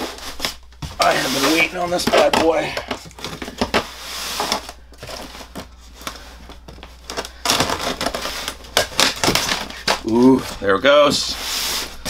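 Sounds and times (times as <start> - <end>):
cardboard and styrofoam rustling: 0.0 - 12.0.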